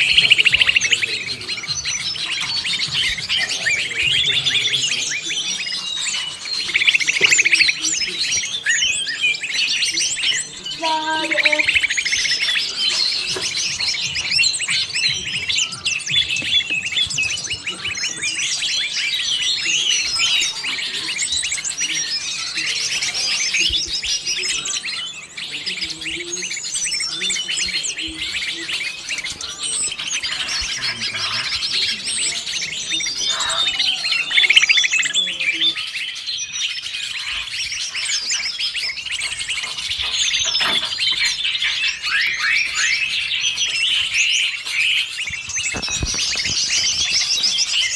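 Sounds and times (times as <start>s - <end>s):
small birds chirping and trilling: 0.0s - 47.9s.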